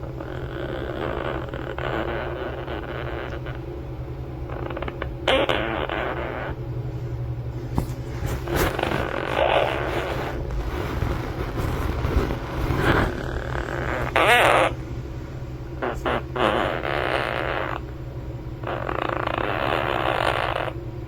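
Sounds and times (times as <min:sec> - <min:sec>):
parrot snoring: 0:00.0 - 0:03.7, 0:04.4 - 0:20.8
steady low hum: 0:00.0 - 0:21.0.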